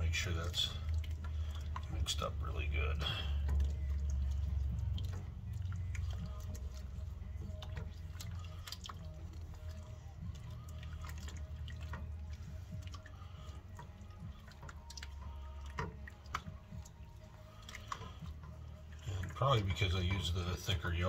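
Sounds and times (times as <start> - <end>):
low steady hum: 0.0 - 21.0
spatula stirring thick sauce: 0.0 - 21.0.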